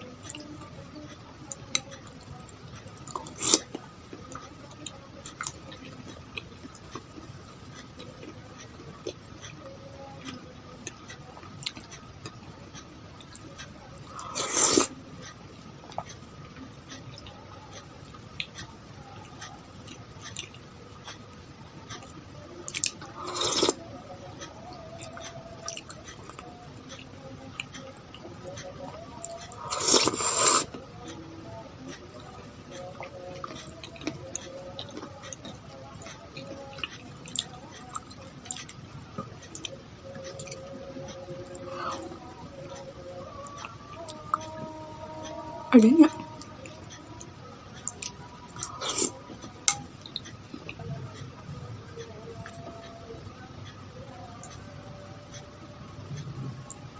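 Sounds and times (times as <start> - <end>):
soft chewing and mouth clicks: 0.0 - 56.9
loud noisy eating sound: 0.1 - 56.9.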